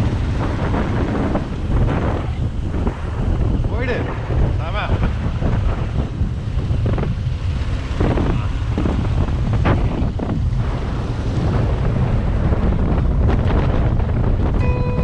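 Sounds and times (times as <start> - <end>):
heavy wind buffeting microphone: 0.0 - 15.0.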